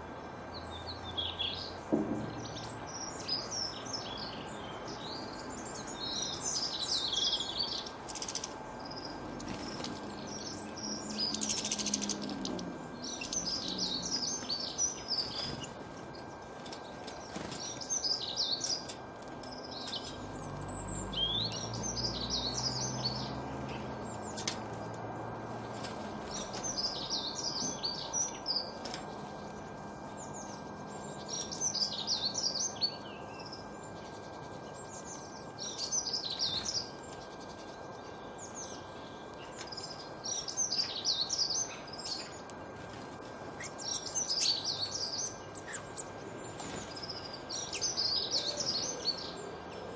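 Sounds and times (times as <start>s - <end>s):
songbird twittering: 0.5s - 24.4s, 30.1s - 42.4s, 43.6s - 49.9s.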